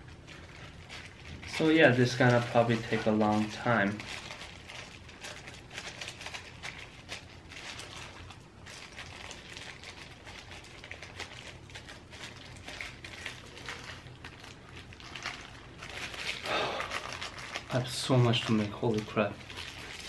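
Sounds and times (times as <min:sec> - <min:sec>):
low steady hum: 0:00.0 - 0:20.0
rice crackling and squishing: 0:00.0 - 0:20.0.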